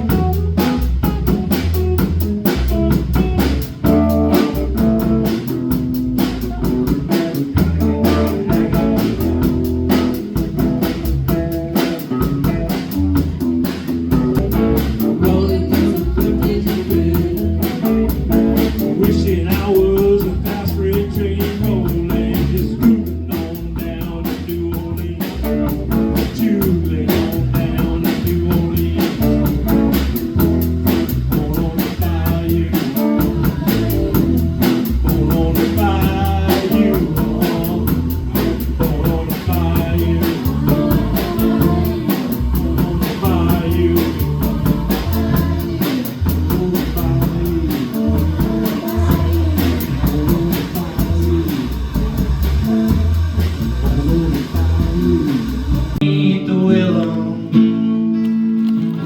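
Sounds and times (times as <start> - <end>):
drum kit: 0.0 - 56.2
bass guitar: 0.0 - 59.0.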